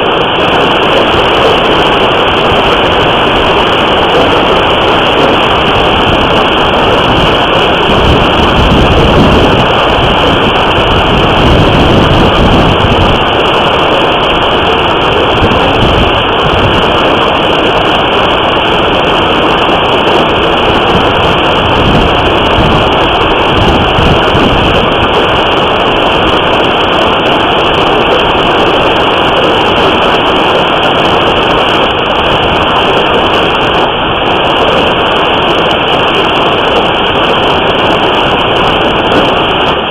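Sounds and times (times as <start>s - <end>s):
hailstones pounding: 0.0s - 39.9s
wind gusts on microphone: 0.0s - 39.9s.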